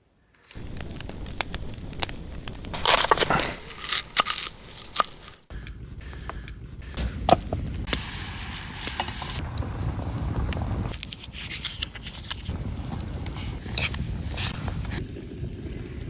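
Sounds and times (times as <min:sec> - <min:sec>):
wood fire crackling: 0:00.4 - 0:16.0
fire popping: 0:00.5 - 0:16.0.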